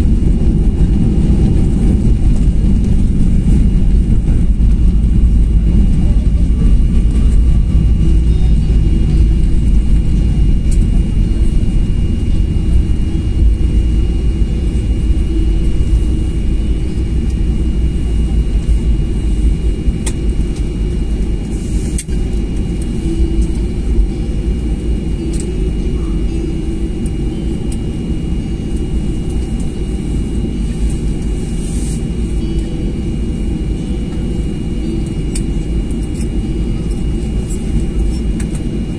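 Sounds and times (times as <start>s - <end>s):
aircraft engines and wheels rumbling: 0.0s - 38.9s.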